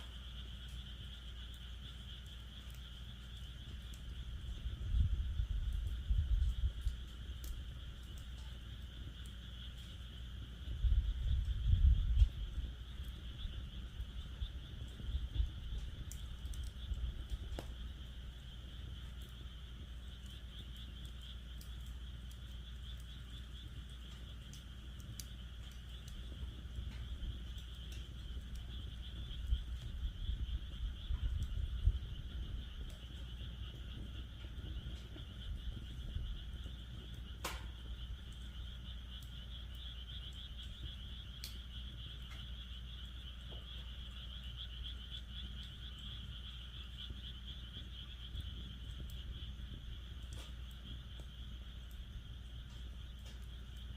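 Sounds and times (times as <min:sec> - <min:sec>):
fire popping: 0:00.0 - 0:53.9
frogs calling: 0:00.0 - 0:53.9
wood fire crackling: 0:00.0 - 0:53.9.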